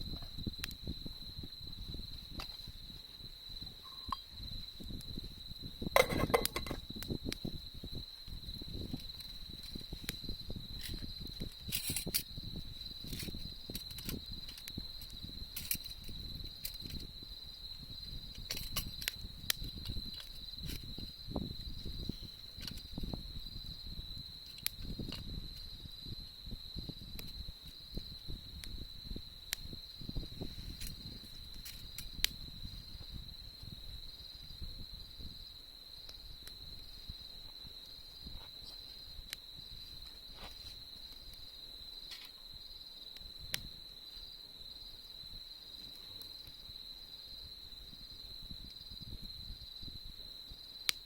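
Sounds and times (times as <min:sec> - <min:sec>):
campfire crackling and popping: 0:00.0 - 0:44.3, 0:50.4 - 0:51.0
insects trilling: 0:00.0 - 0:51.0.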